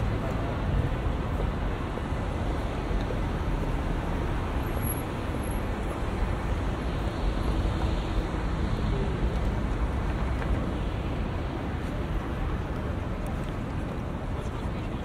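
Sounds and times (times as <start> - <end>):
passing cars and engines: 0.0 - 15.0.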